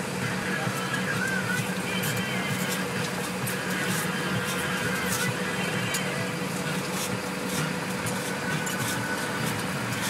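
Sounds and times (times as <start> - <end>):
boat engine humming: 0.0 - 10.0
wind: 0.0 - 10.0.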